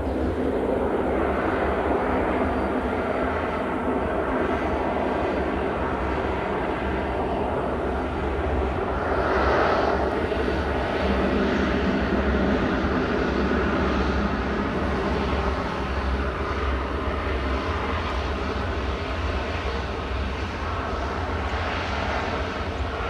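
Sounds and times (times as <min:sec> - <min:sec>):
jet airliner engines rushing: 0:00.0 - 0:23.0.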